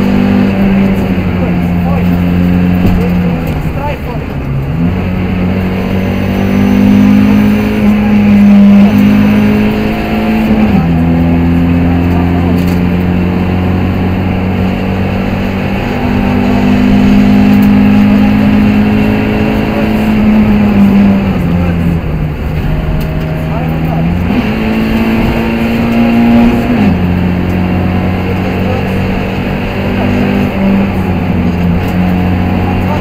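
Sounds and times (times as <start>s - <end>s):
car engine at high revs: 0.0s - 33.0s.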